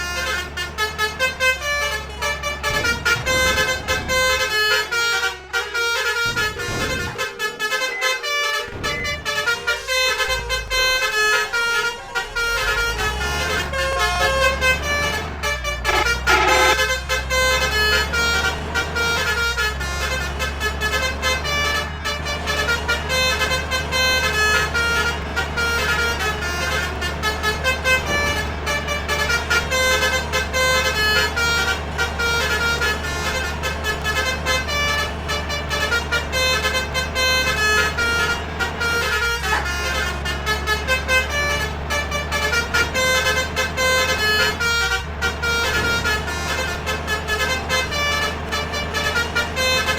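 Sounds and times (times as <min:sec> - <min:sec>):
bus engine running: 0:00.0 - 0:49.9
bus horns tooting melodies: 0:00.0 - 0:49.9.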